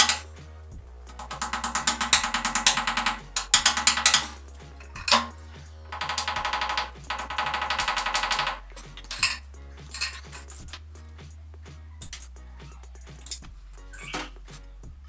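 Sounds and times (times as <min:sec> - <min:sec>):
low bass line: 0:00.0 - 0:15.0
music with ticking beat: 0:00.0 - 0:15.0.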